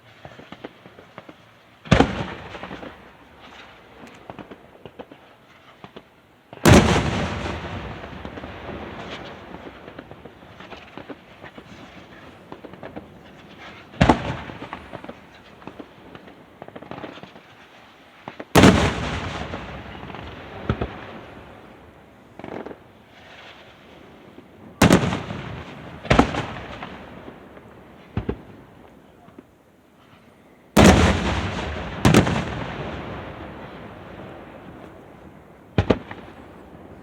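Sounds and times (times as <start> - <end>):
fireworks booming: 0.0 - 37.0
fireworks popping and crackling: 0.0 - 37.0.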